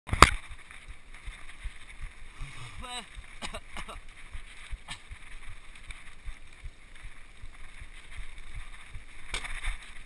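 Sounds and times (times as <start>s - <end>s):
bike thumping over rough ground: 0.1s - 10.0s
wind and tyre noise on microphone: 0.1s - 10.0s.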